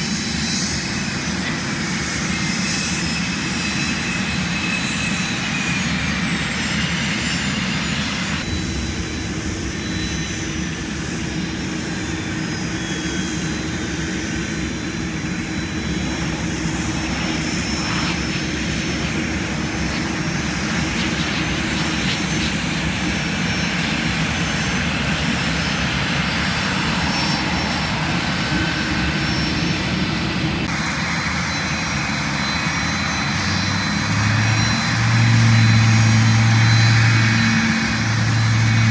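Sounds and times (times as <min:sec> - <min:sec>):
jet engine whine: 0:00.0 - 0:38.9.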